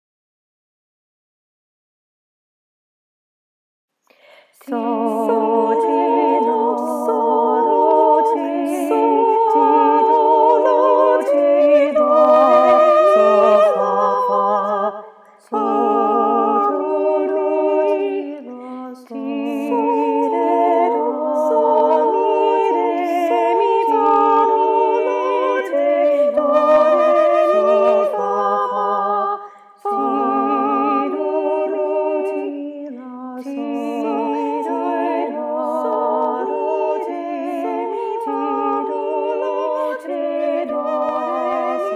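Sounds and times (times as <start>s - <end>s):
voices singing a cappella: 4.1s - 41.9s.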